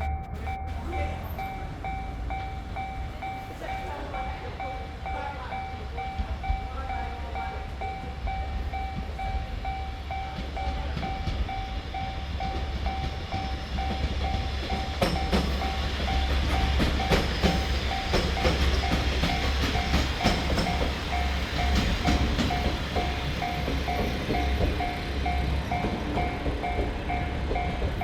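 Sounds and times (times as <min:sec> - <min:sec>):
level crossing bell ringing: 0:00.0 - 0:28.0
train low rumble: 0:00.0 - 0:28.0
train wheels clacking: 0:00.0 - 0:28.0.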